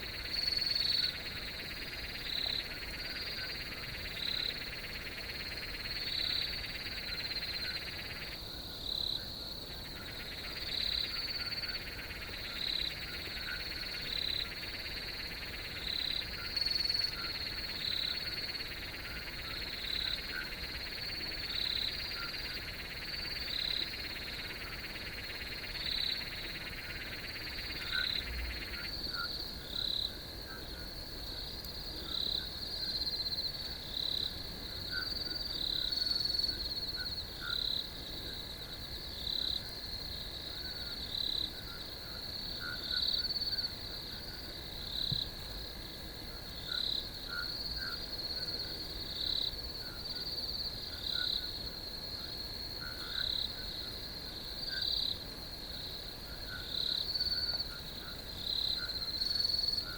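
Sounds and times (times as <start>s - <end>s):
cricket chirping in pulses: 0.0s - 59.9s
crickets trilling: 0.0s - 59.9s
low insect chorus: 0.0s - 59.9s.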